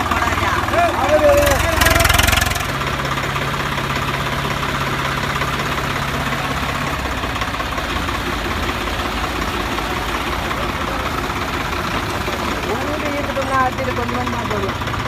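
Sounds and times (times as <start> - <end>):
tractor diesel engine knocking: 0.0 - 15.0.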